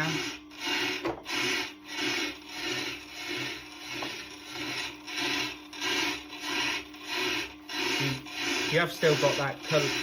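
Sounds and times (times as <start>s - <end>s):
diamond tool rasping on grinding wheel: 0.0s - 10.0s
faint motor hum: 0.0s - 10.0s.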